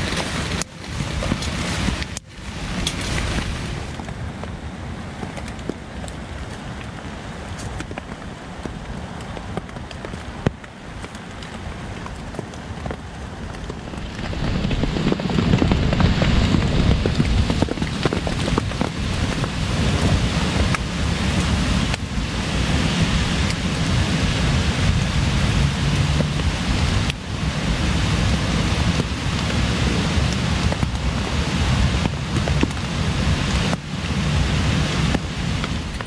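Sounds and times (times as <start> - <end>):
heavy rain: 0.0 - 36.0
wind buffeting microphone: 0.0 - 36.0.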